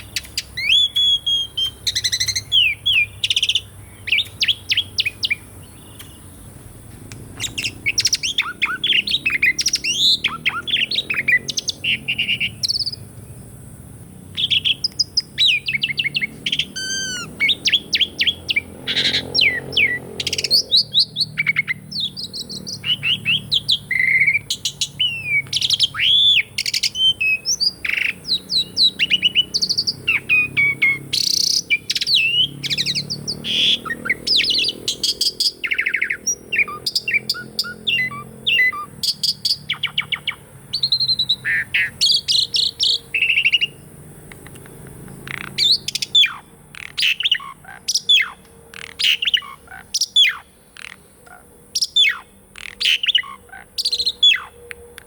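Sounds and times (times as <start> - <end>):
starling singing: 0.0 - 13.2, 14.0 - 55.0.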